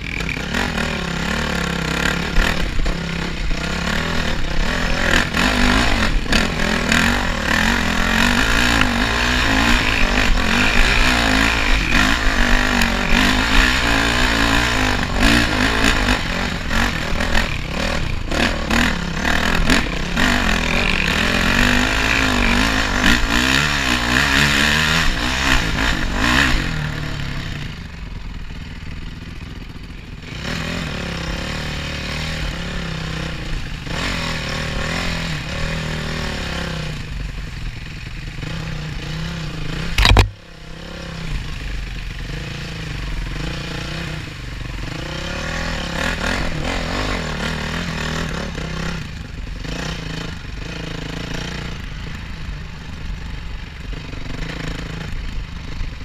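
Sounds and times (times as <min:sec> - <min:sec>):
motorcycle engine revving: 0:00.0 - 0:56.0
motorcycle rattling over bumps: 0:00.0 - 0:56.0.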